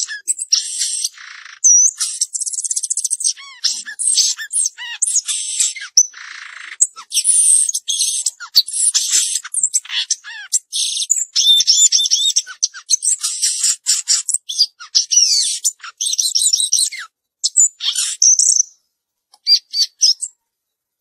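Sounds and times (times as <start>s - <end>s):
songbird singing: 0.0s - 18.8s, 19.4s - 20.4s.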